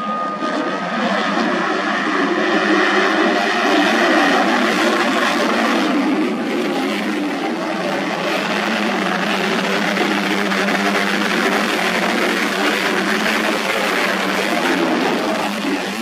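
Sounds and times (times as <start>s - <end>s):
racing motorcycle engines revving: 0.0s - 16.0s.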